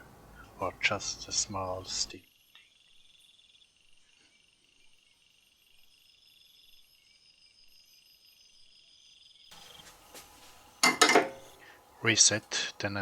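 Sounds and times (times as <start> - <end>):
crickets trilling: 0.3 - 13.0.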